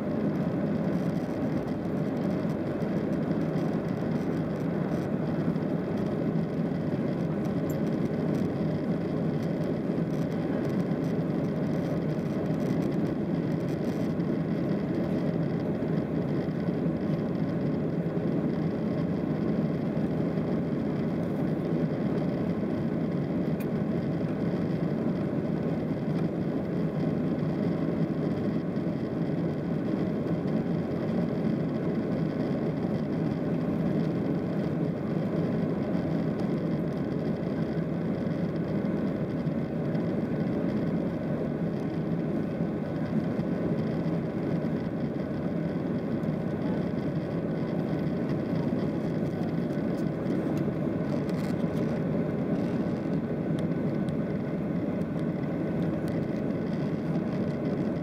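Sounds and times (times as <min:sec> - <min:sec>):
jet engines and airflow in cabin: 0:00.0 - 0:58.0.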